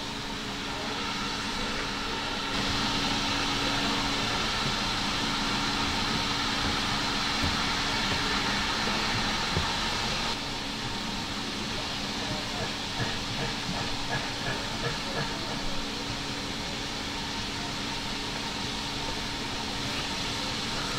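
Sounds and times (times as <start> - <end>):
steam hissing: 0.0 - 20.9.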